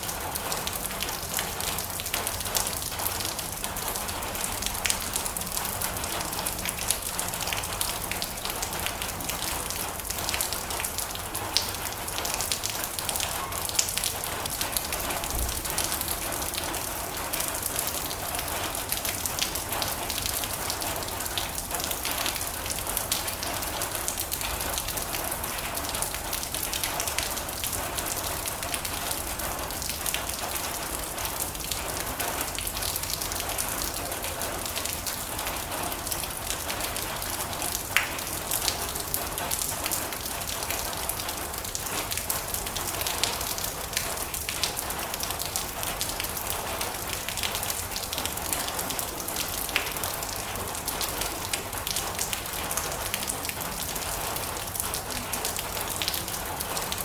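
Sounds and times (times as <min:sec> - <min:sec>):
heavy rain drumming on a metal roof: 0:00.0 - 0:57.0.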